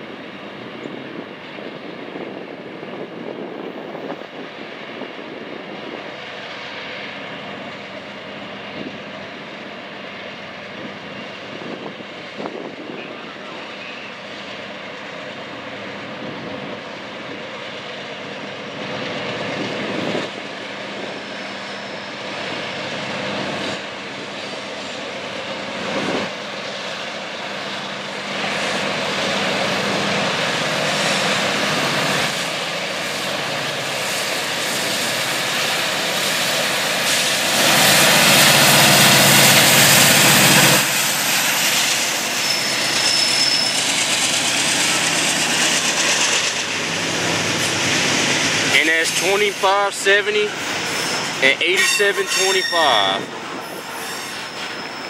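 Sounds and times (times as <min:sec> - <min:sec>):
diesel locomotives passing: 0:00.0 - 0:55.0.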